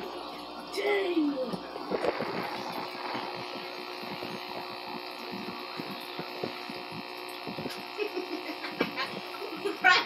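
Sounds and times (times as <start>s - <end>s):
aquarium pump humming: 0.0s - 10.0s
air bubbles popping: 1.4s - 10.0s.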